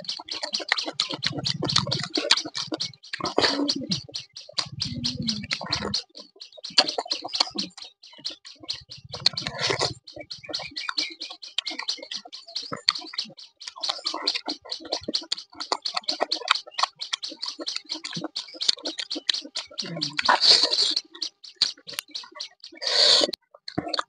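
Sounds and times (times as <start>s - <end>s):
person chewing and lip-smacking: 0.1s - 11.9s, 13.7s - 22.1s.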